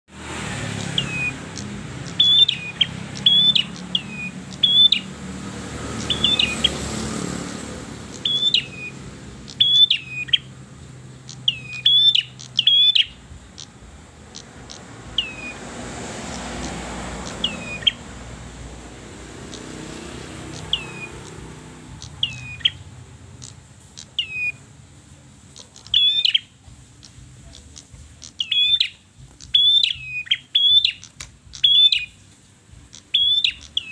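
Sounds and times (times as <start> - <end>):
songbird high repeated chirps: 0.2 - 33.9.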